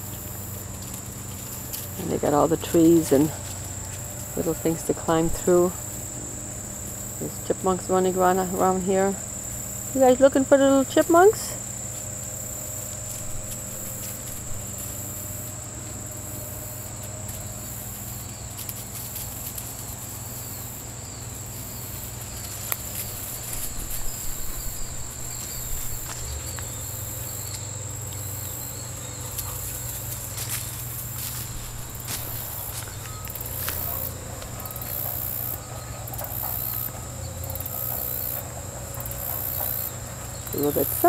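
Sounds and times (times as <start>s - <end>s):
puppies rustling through dry leaves: 0.0s - 7.2s, 11.1s - 41.0s
insect chorus: 0.0s - 41.0s.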